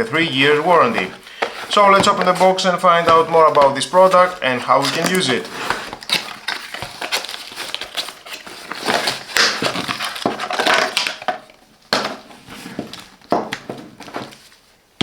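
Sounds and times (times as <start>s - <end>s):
packaging rustling and scraping: 0.0s - 14.7s.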